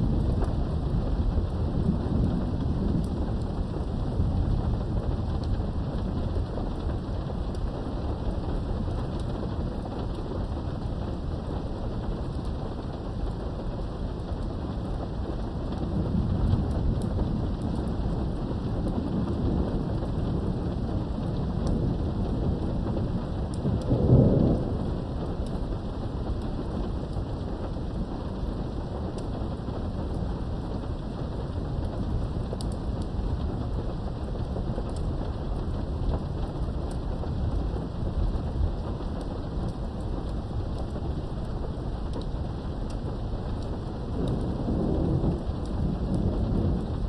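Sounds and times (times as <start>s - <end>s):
rolling thunder: 0.0s - 47.0s
steady rain: 0.0s - 47.0s.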